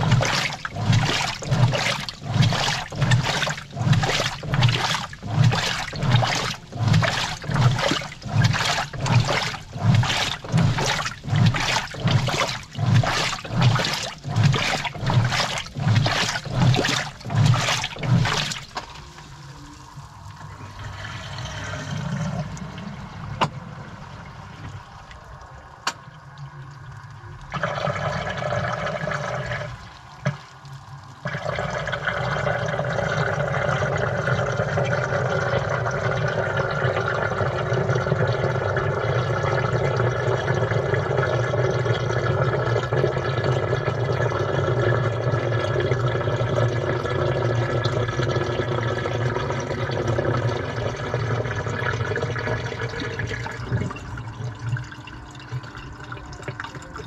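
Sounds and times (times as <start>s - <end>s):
water sloshing in washing machine: 0.0s - 26.1s, 27.4s - 57.0s.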